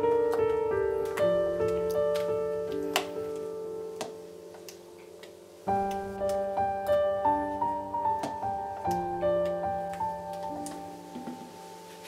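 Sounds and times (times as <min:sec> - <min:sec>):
slow gentle solo piano: 0:00.0 - 0:12.0.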